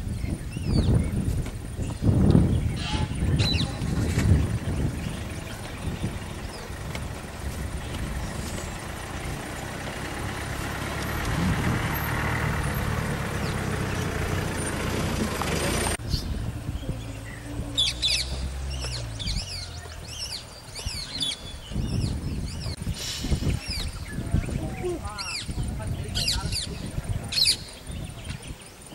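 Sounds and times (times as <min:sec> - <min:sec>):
birds chirping: 0:00.0 - 0:28.9
vehicle engine idling: 0:02.3 - 0:27.2.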